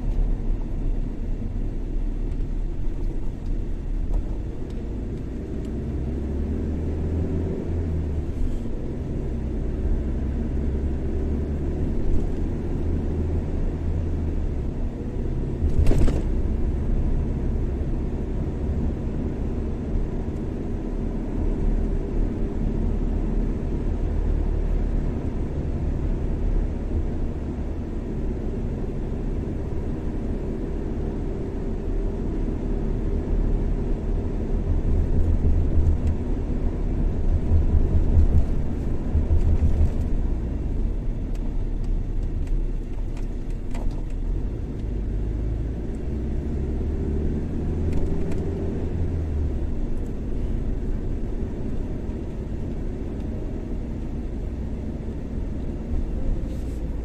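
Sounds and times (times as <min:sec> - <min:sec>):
car driving on highway: 0:00.0 - 0:57.0.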